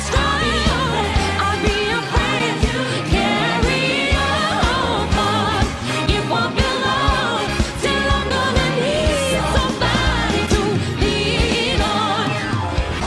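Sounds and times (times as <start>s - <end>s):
woman singing: 0.0s - 12.6s
band with drums and bass: 0.0s - 13.0s.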